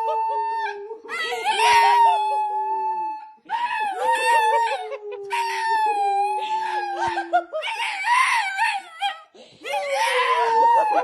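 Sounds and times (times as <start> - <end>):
dog howling: 0.0 - 11.0.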